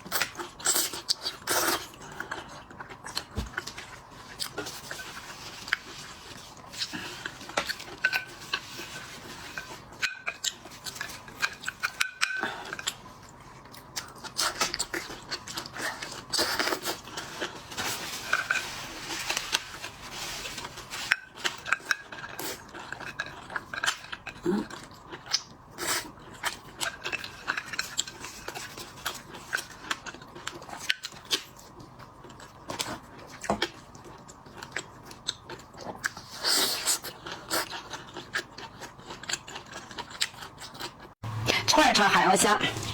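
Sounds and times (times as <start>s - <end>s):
chewing and crunching shellfish: 0.0s - 42.0s.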